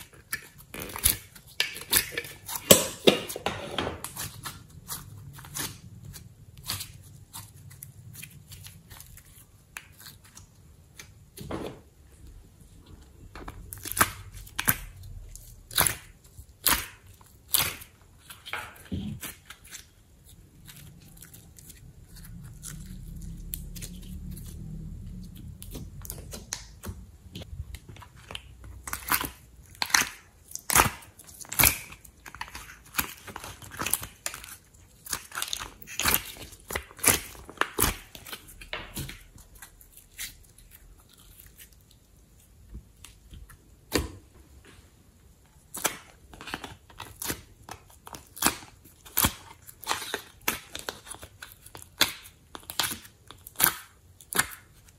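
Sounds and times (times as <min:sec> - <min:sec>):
hands squeezing clay and slime: 0:04.0 - 0:44.1, 0:45.6 - 0:54.9.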